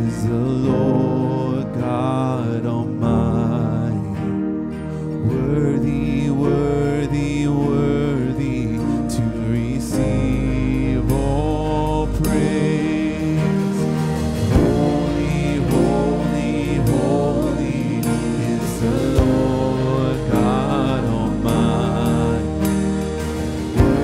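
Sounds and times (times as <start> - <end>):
keyboard: 0.0 - 24.0
man singing: 0.0 - 24.0
strummed acoustic guitar: 0.0 - 24.0.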